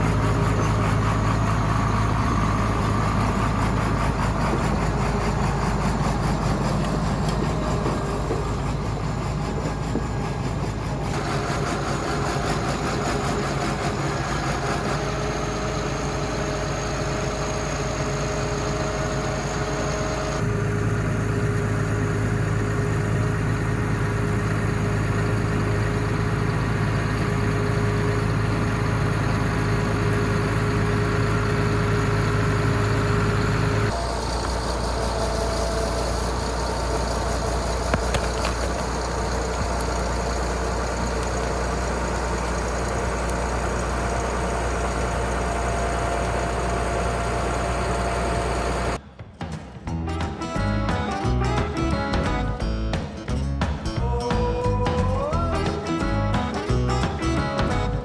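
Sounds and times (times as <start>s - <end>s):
bulldozer engine running: 0.0s - 49.2s, 49.9s - 58.0s.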